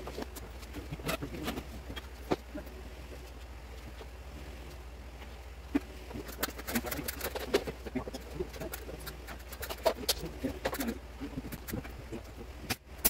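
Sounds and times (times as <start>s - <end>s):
quiet hum: 0.0s - 13.0s.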